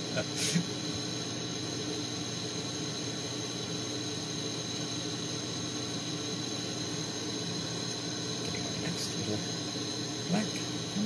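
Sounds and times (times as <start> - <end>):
torch hissing: 0.0 - 11.0.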